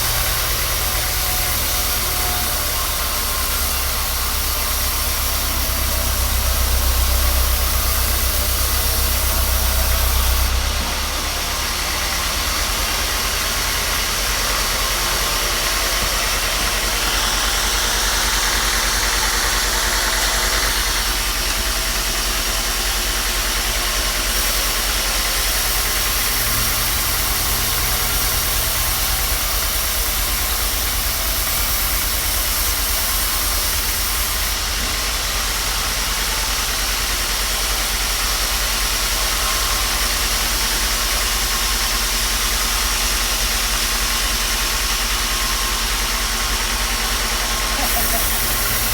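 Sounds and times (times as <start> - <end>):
machine running: 0.0 - 48.9.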